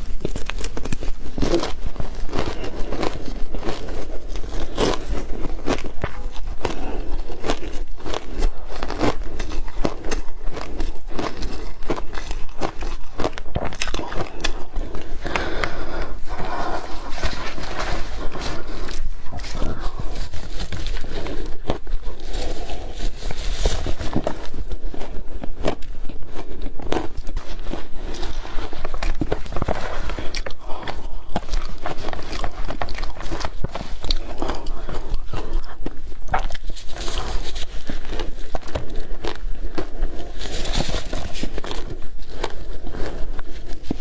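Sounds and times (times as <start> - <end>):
crunchy biting and chewing: 0.0 - 44.0
mouth sounds: 1.4 - 25.8, 26.9 - 39.2.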